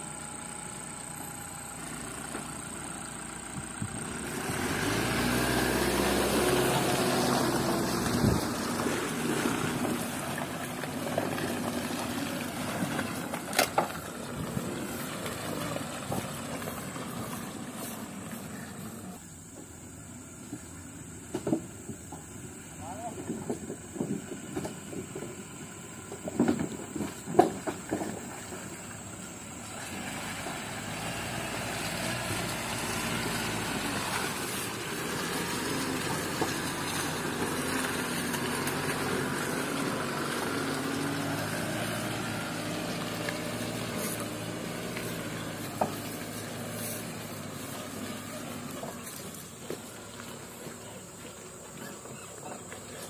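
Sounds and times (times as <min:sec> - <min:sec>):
pickup truck engine driving past: 0:00.0 - 0:21.2, 0:26.8 - 0:53.0.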